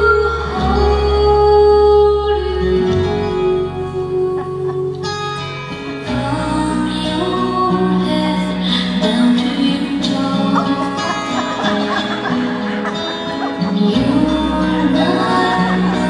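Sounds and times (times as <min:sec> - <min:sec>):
guitar playing: 0:00.0 - 0:16.0
person singing: 0:00.0 - 0:16.0.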